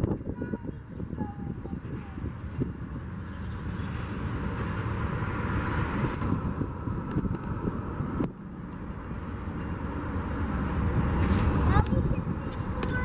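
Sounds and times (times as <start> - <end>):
rumble of vehicles: 0.0 - 13.0.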